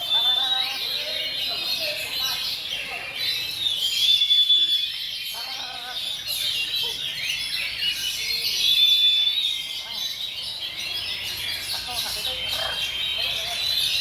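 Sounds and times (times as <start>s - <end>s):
birds singing whistles and chatter: 0.0s - 14.0s.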